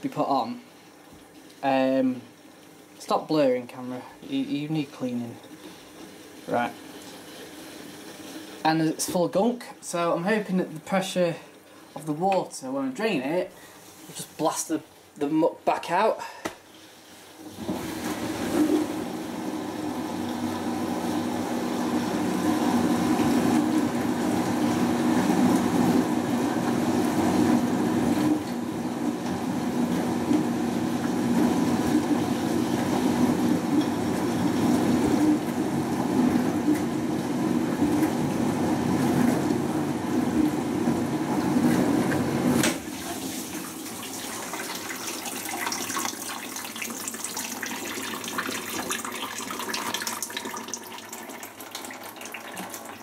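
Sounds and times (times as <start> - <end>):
dishwasher drain pump humming: 0.0 - 53.0.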